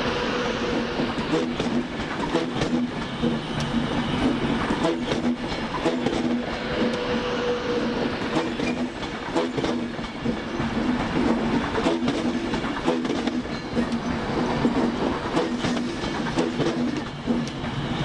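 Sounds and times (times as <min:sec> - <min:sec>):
train hum: 0:00.0 - 0:18.0
wheels clacking over rail joints: 0:00.6 - 0:07.1, 0:08.0 - 0:18.0.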